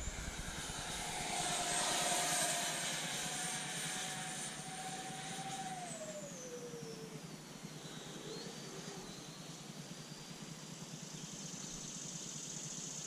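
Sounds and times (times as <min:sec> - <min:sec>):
model jet fans whining overhead: 0:00.0 - 0:13.0.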